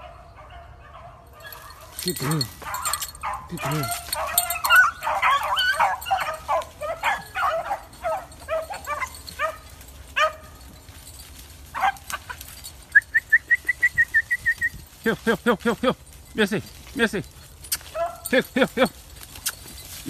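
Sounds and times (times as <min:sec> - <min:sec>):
beagles yipping and baying: 0:00.0 - 0:15.0, 0:16.0 - 0:20.0.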